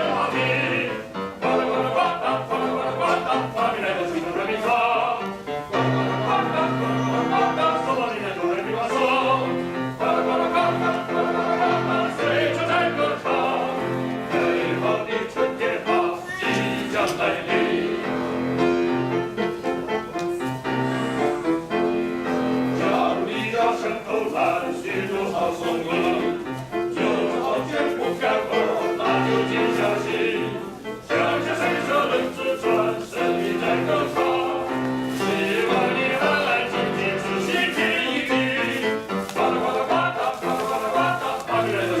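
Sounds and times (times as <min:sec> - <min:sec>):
male vocal ensemble singing: 0:00.0 - 0:18.3, 0:22.7 - 0:42.0
piano accompaniment: 0:00.0 - 0:42.0.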